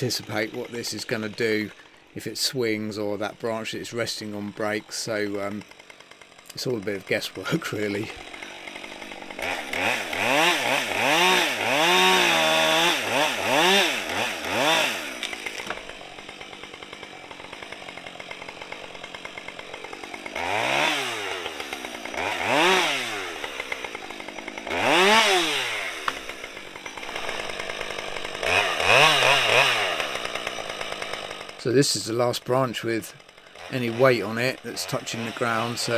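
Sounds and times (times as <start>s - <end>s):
chainsaw revving: 0.0s - 35.9s.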